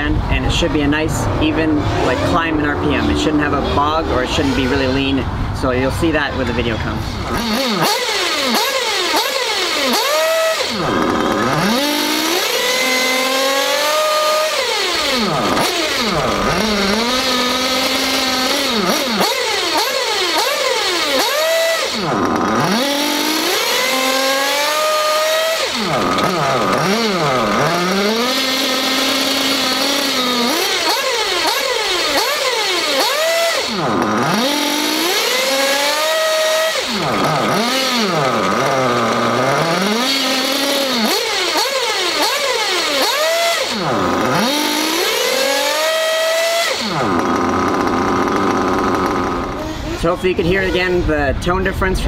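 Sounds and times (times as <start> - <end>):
model car engine revving: 0.0 - 51.0.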